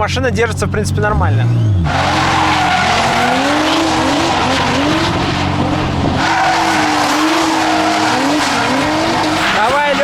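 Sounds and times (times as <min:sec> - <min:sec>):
car engine revving: 0:00.0 - 0:10.0
tyres skidding: 0:00.0 - 0:10.0.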